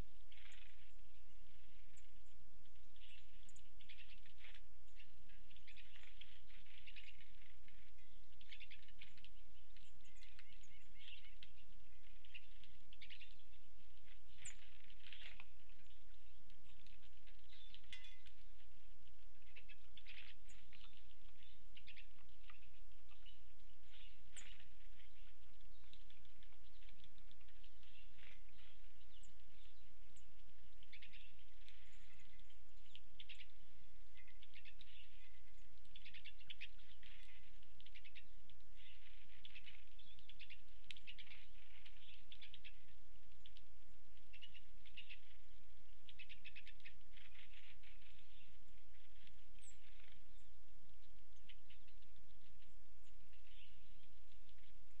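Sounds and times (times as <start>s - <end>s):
birds pecking at feeders: 0.0s - 55.0s.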